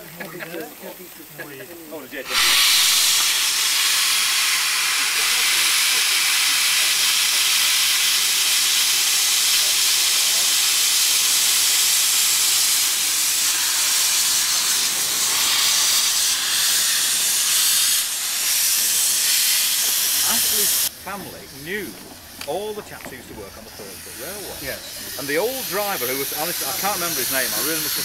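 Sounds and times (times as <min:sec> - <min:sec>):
steam hissing from locomotive: 0:00.0 - 0:28.0.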